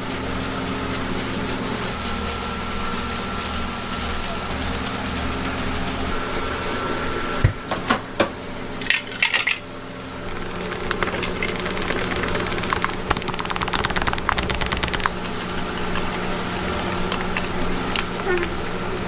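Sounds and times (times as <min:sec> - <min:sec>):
steady background hum: 0:00.8 - 0:19.0.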